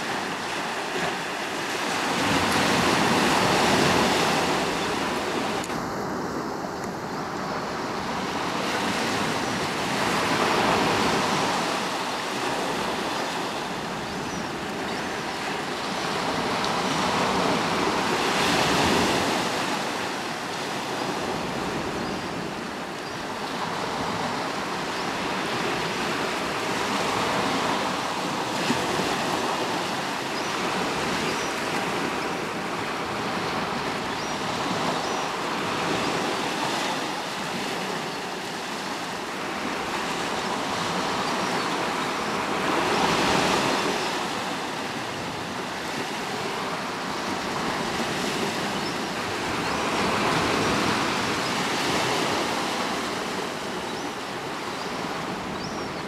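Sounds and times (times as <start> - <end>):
surf washing against rocks: 0.0 - 55.6.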